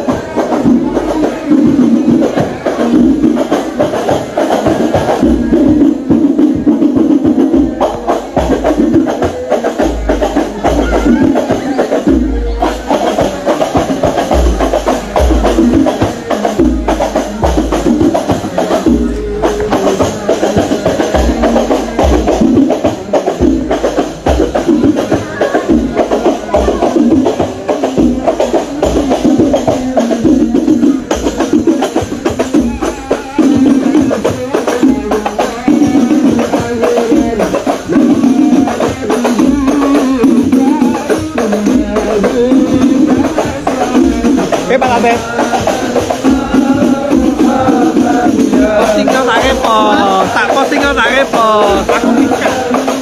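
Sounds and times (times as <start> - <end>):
drum beat: 0.0 - 53.0
jingling hand percussion: 0.0 - 53.0.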